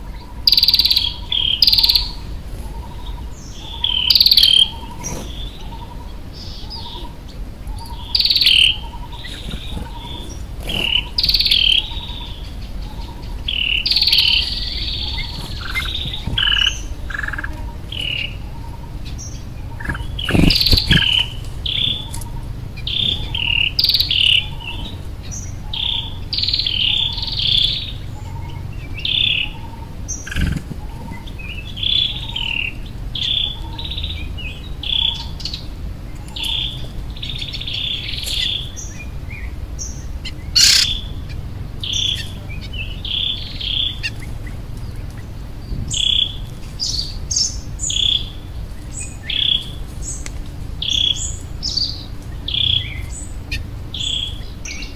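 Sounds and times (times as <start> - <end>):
birds chirping and calling: 0.0 - 54.9
low background rumble: 0.0 - 54.9.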